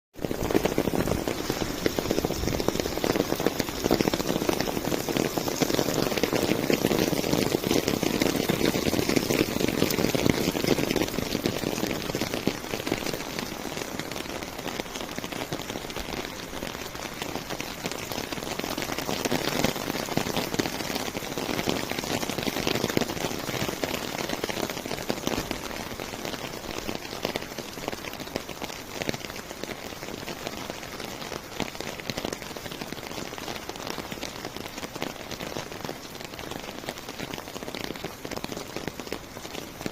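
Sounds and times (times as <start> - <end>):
rain falling: 0.2 - 39.9.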